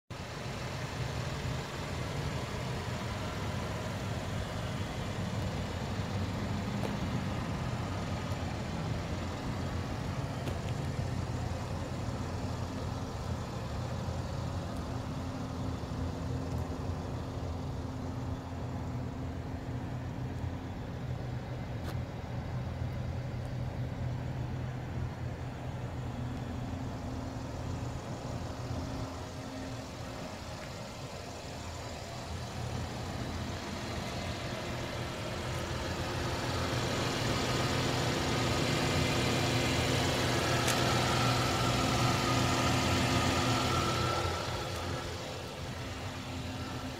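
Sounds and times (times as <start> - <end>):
car engine idling: 0.1 - 46.9.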